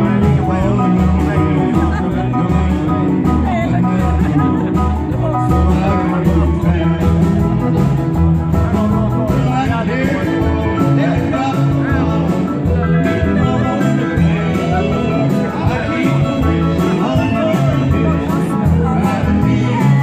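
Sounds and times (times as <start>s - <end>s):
guitar playing: 0.0s - 20.0s
steady bass: 0.0s - 20.0s.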